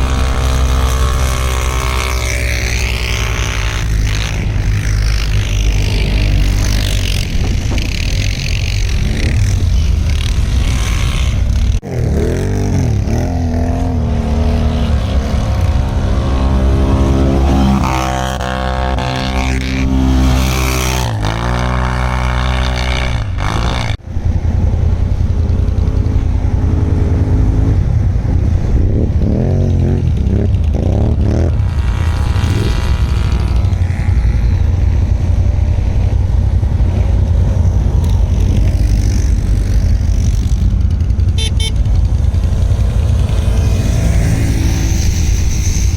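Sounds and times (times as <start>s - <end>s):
quad engines revving: 0.0s - 45.9s.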